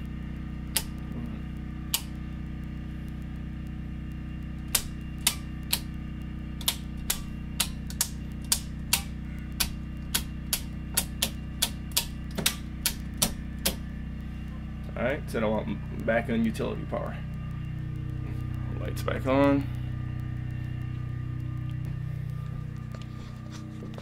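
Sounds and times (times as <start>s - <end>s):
circuit breaker clicking on: 0.0s - 22.9s
steady low hum: 0.0s - 24.0s.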